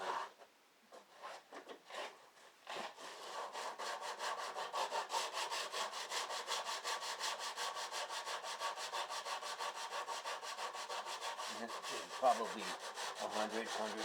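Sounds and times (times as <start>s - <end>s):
sandpaper rubbing on wood: 1.2s - 14.0s.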